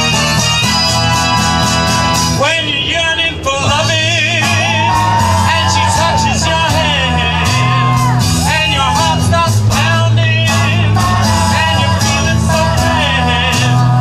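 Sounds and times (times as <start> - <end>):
music with steady beat: 0.0 - 14.0
person singing with vibrato: 0.0 - 14.0.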